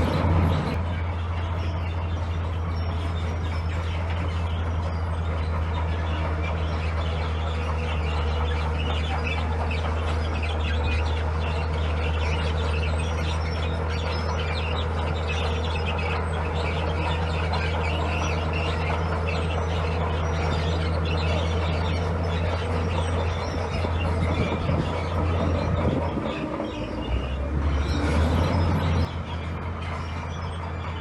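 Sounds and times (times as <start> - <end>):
birds chirping: 0.0 - 31.0
heavy diesel engine running: 0.0 - 31.0.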